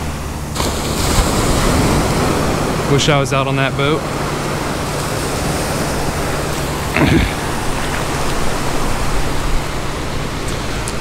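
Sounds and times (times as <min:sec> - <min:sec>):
surf washing on beach: 0:00.0 - 0:11.0.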